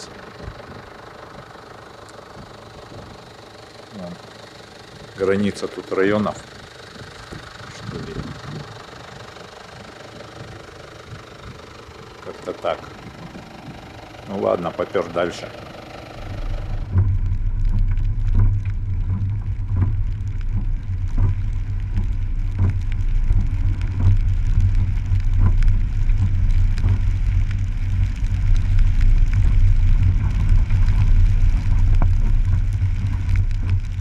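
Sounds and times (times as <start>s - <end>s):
sharp ticks: 0.0s - 34.0s
vehicle and road rumble: 0.0s - 34.0s.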